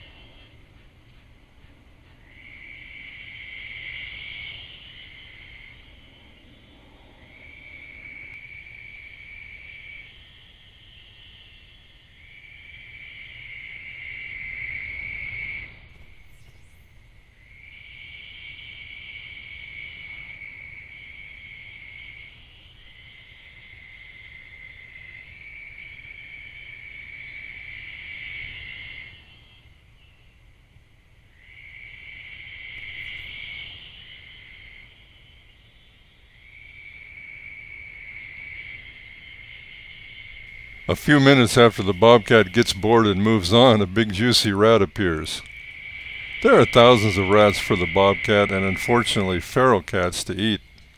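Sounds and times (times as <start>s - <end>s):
night insects trilling: 0.0s - 50.9s.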